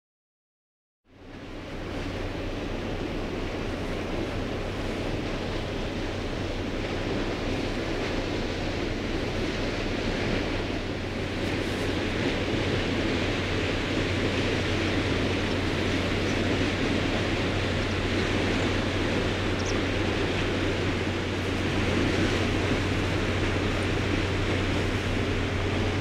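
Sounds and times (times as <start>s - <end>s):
rushing water noise: 1.1s - 26.0s
ship engine hum: 1.1s - 26.0s.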